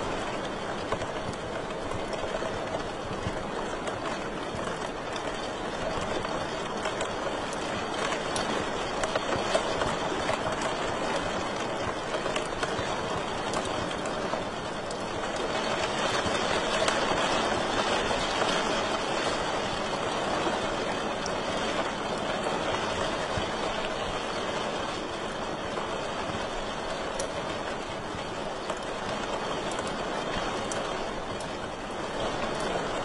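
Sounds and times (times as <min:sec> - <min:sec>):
wood fire crackling: 0:00.2 - 0:33.0.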